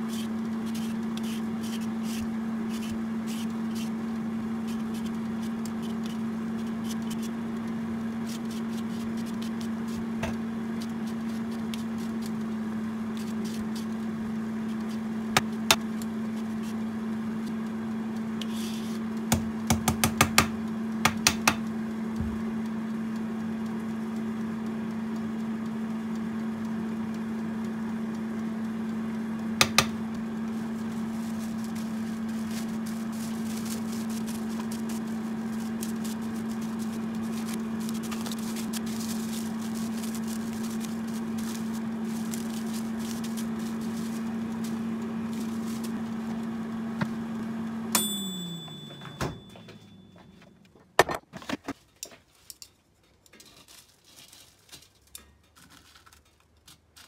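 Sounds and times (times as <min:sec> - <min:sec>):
steady low hum: 0:00.0 - 0:51.7.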